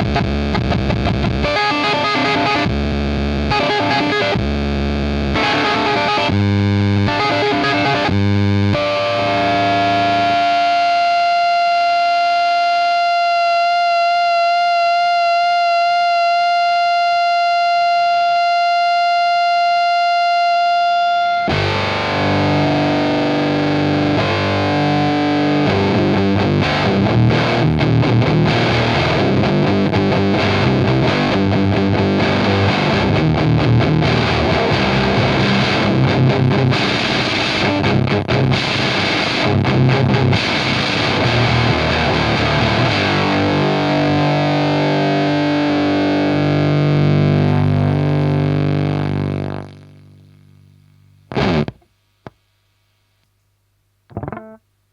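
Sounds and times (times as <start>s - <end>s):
fuzzed electric guitar: 0.0s - 52.4s, 54.1s - 54.7s.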